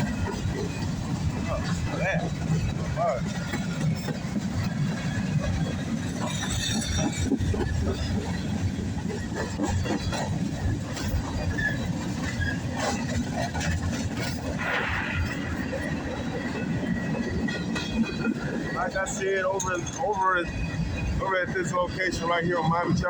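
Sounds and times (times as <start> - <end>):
freight train cars rumbling past: 0.0 - 23.0.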